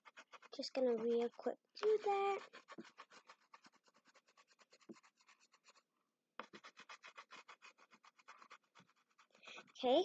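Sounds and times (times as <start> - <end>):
crayon scratching on paper: 0.0 - 10.0.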